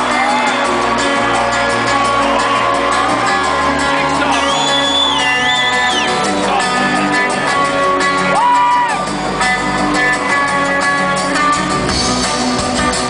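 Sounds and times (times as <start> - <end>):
live rock band playing: 0.0 - 13.0
strummed guitar: 0.0 - 13.0.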